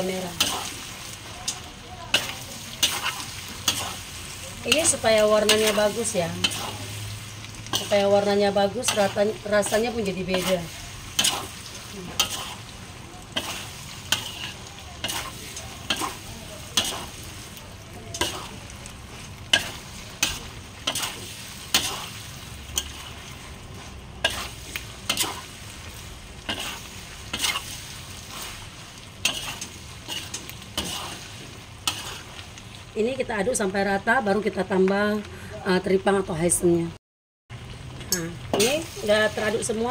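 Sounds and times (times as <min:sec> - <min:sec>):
metal spatula scraping wok: 0:00.0 - 0:17.5, 0:18.1 - 0:32.6, 0:38.4 - 0:39.9
frying sizzle: 0:00.0 - 0:39.9.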